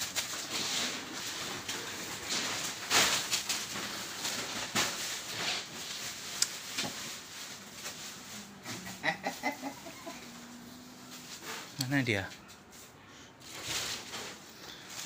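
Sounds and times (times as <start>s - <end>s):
plastic bag rustling: 0.0s - 15.0s
knocks and shuffles: 0.1s - 15.0s.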